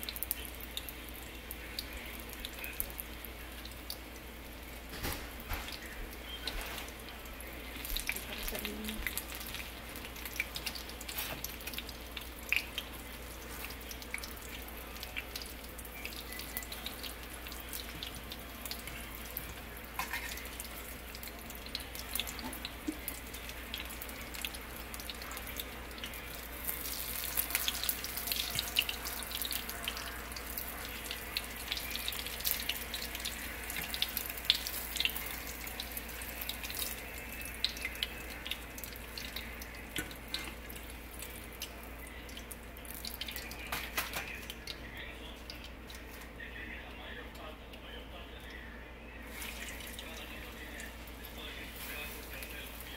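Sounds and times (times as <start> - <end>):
hot oil sizzling in a frying pan: 0.0 - 47.8, 49.2 - 52.9.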